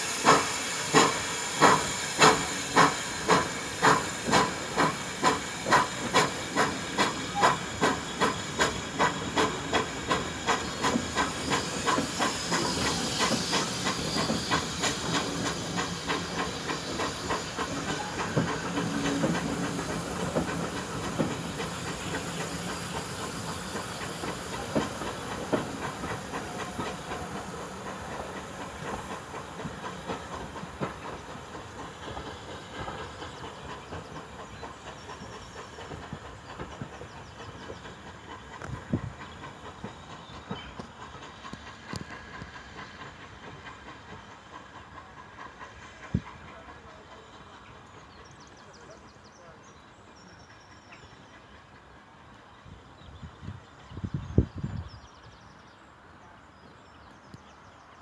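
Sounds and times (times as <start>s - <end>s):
steam locomotive chuffing: 0.0s - 58.0s
train hiss and rumble: 0.0s - 58.0s.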